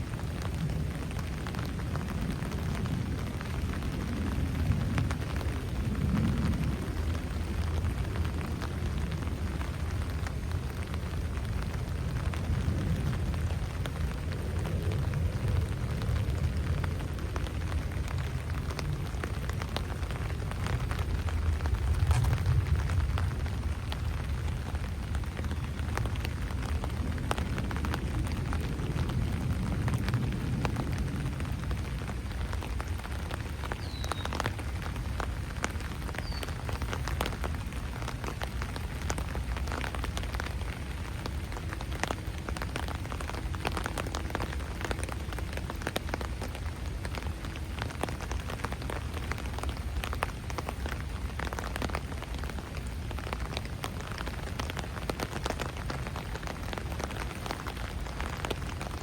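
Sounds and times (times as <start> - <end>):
rain on ground and foliage: 0.0 - 59.0.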